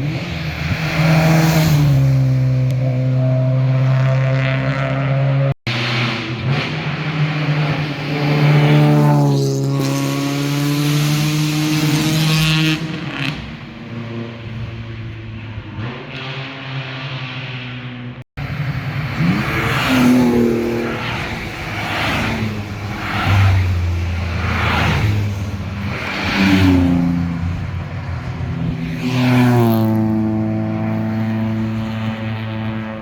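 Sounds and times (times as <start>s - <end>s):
car engines revving past: 0.0s - 33.0s.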